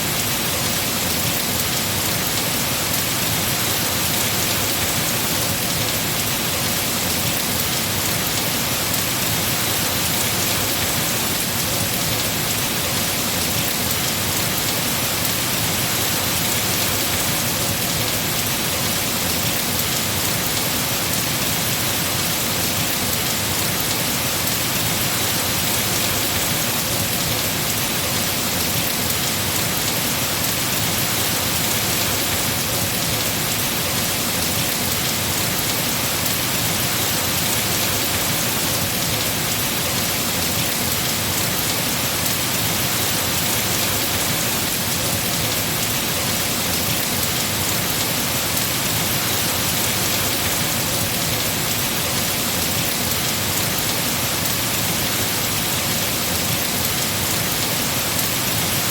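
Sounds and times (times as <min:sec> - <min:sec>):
heavy rain on trees: 0:00.0 - 0:58.9.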